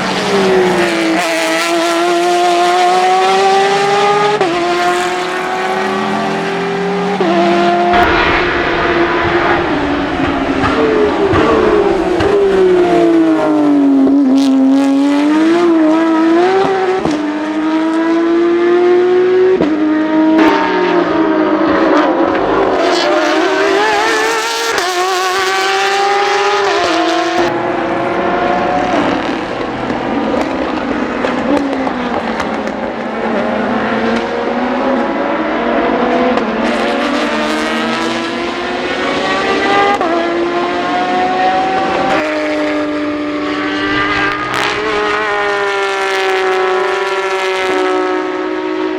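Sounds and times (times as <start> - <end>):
racing car engines: 0.0 - 48.9.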